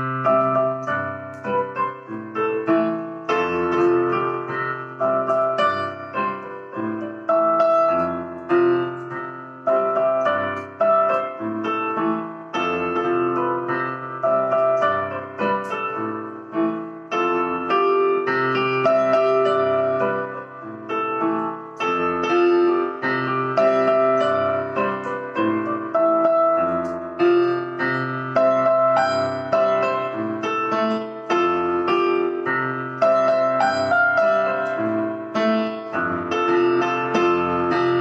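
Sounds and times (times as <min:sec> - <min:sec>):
solo piano playing: 0:00.0 - 0:38.0.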